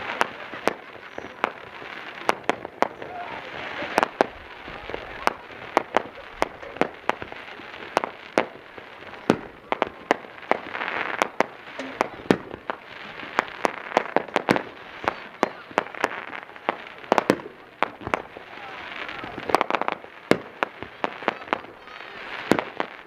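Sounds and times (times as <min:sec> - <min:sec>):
fireworks bursting with sharp bangs: 0:00.0 - 0:23.0
fireworks crackling hiss: 0:00.0 - 0:23.0.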